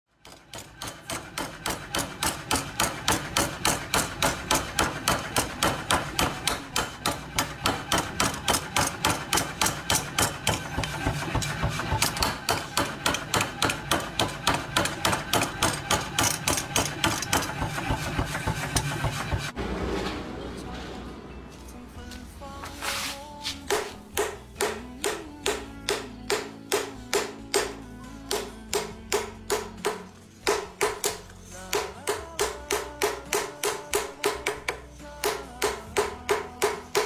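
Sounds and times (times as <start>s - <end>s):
power hammer striking steel: 0.2s - 19.6s, 23.7s - 37.0s.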